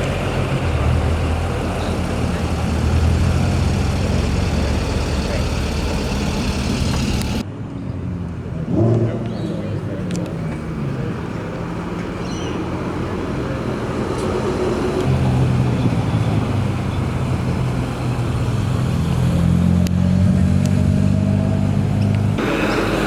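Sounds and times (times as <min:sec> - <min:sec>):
car engines running: 0:00.0 - 0:23.0
tyre and road noise: 0:00.0 - 0:23.0.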